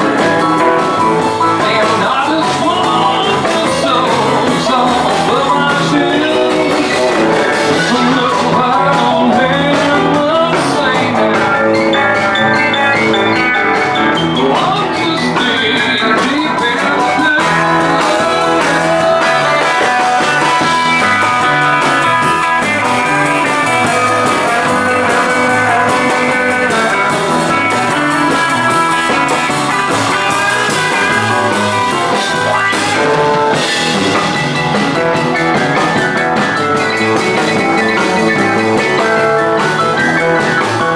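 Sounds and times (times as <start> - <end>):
rockabilly band music: 0.0 - 40.9.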